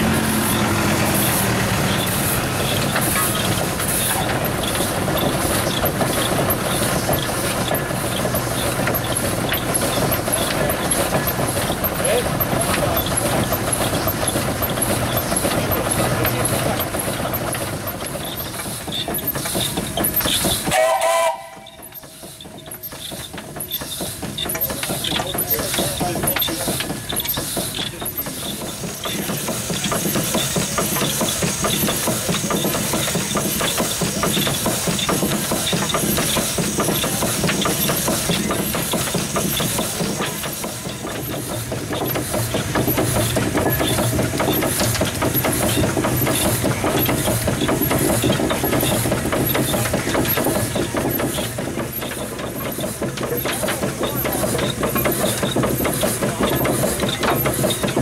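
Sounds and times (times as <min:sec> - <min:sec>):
steam engine beat: 0:00.0 - 0:58.0
steam hiss: 0:00.0 - 0:58.0.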